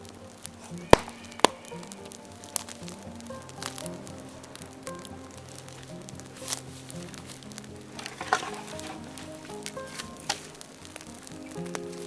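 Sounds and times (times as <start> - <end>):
bamboo popping in a fire: 0.0 - 12.0
soft background music: 0.0 - 12.0.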